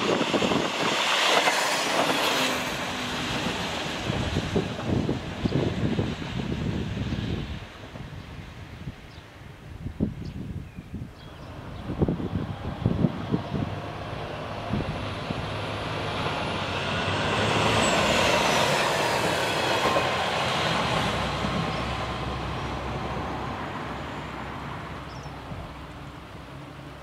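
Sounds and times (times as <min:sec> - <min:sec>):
diesel railcar passing: 0:00.0 - 0:10.2, 0:11.2 - 0:27.0.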